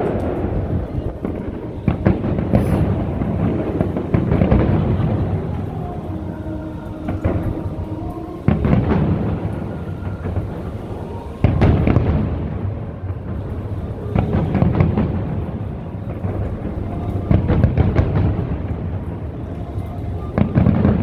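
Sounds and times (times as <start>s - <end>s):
firework crackling: 0.0s - 21.0s
firework shells booming: 0.0s - 21.0s
music: 0.0s - 21.0s.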